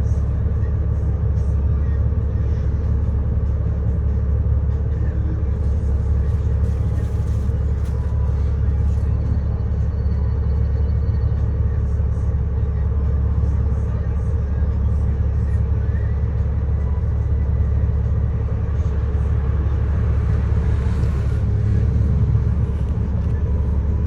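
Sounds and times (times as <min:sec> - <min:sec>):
bus engine and road rumble: 0:00.0 - 0:24.0
constant hum: 0:00.0 - 0:24.0.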